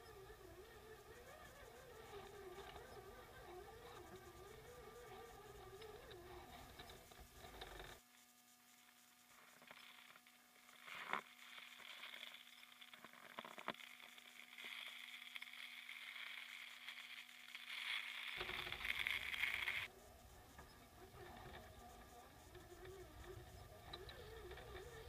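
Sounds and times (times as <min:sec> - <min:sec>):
rc car motor whining: 0:00.0 - 0:08.0, 0:09.5 - 0:25.0.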